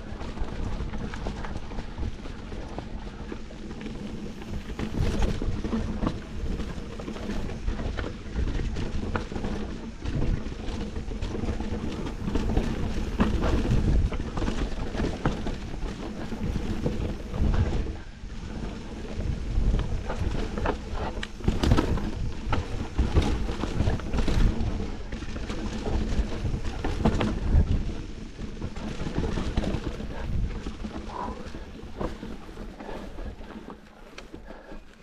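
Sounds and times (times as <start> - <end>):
bike rattling and knocking: 0.0 - 35.0
bike tyres rumbling over dirt: 0.0 - 35.0
wind buffeting microphone: 0.0 - 35.0.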